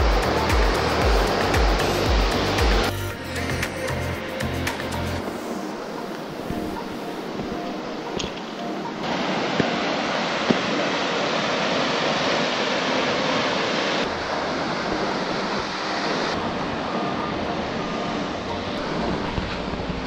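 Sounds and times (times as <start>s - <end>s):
rushing whitewater: 0.0s - 20.0s.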